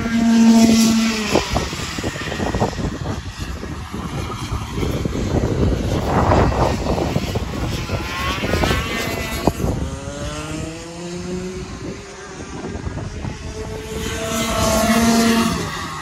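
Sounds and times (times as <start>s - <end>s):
go-kart engines running: 0.0s - 16.0s.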